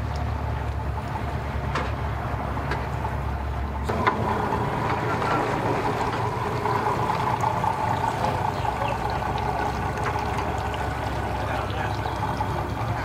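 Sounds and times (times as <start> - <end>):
outboard motor idling: 0.0 - 13.0
personal watercraft low rumble: 0.0 - 13.0.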